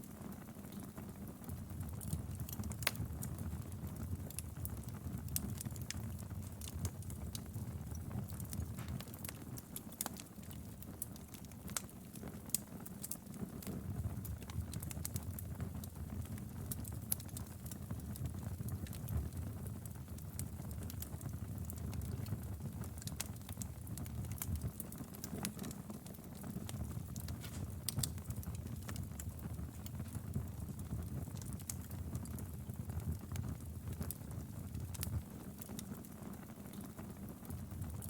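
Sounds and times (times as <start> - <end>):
firewood crackling and popping: 0.0 - 38.0
low rumble of flames: 0.0 - 38.0.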